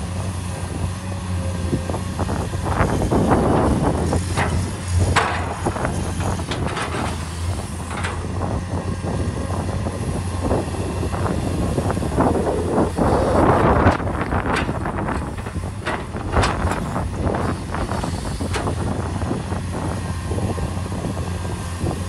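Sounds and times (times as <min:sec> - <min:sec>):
excavator diesel engine: 0:00.0 - 0:22.0.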